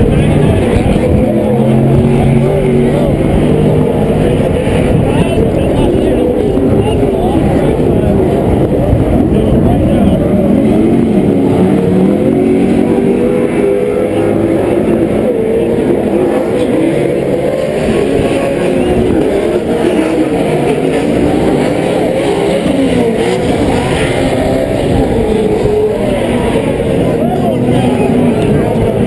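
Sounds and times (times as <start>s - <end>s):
race truck engines revving: 0.0s - 29.0s.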